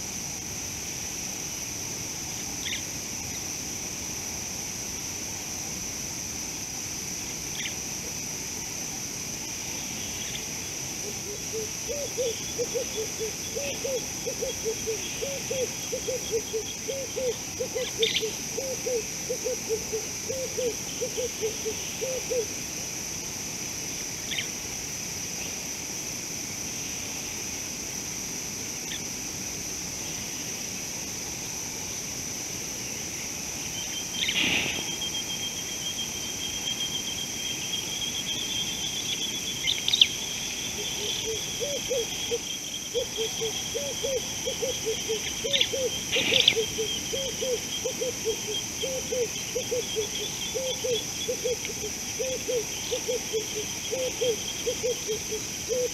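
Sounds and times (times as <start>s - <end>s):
insect high trill: 0.0s - 25.7s, 26.7s - 55.9s
insects chirring: 0.0s - 55.9s.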